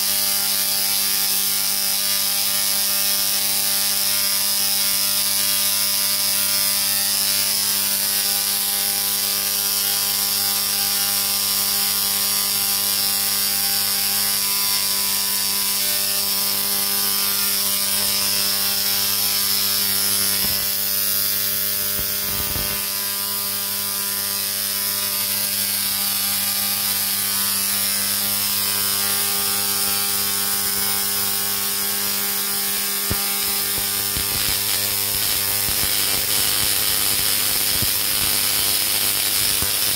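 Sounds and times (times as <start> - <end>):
tesla coil buzzing: 0.0 - 39.9.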